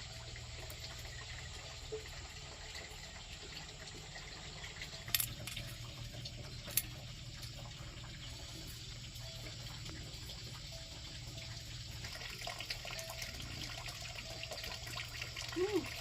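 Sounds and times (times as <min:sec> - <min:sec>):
water: 0:00.0 - 0:16.0.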